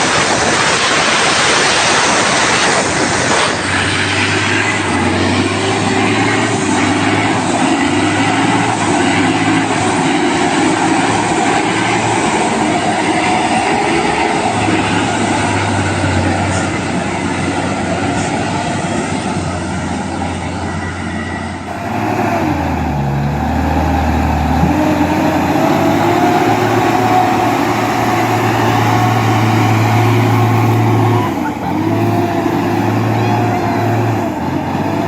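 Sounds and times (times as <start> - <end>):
truck engine running under load: 0.0 - 35.0.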